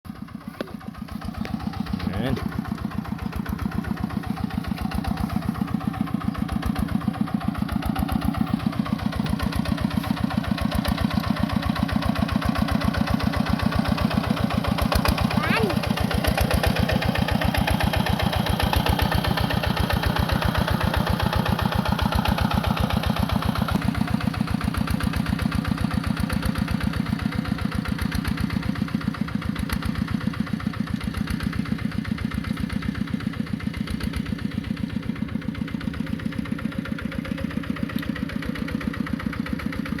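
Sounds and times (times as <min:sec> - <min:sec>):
tractor engine chugging: 0:00.1 - 0:40.0.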